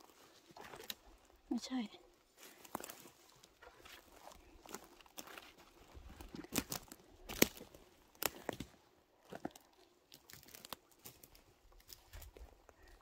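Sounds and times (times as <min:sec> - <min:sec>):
dry twigs crunching and snapping: 0:00.4 - 0:01.3, 0:02.4 - 0:13.0.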